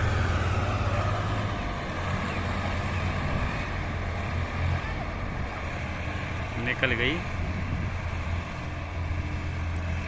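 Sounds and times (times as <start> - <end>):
diesel engine under heavy load: 0.0 - 10.0.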